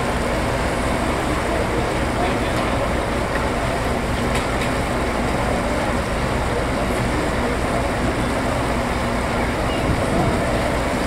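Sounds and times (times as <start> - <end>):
ship rumble and hiss: 0.0 - 11.0.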